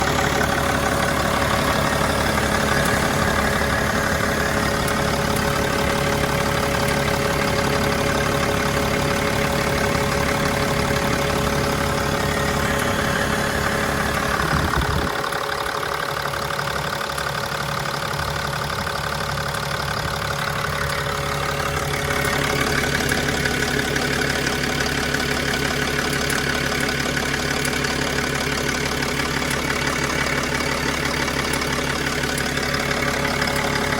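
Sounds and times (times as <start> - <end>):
diesel engine idling: 0.0 - 33.9
engine ticking noise: 0.0 - 33.9.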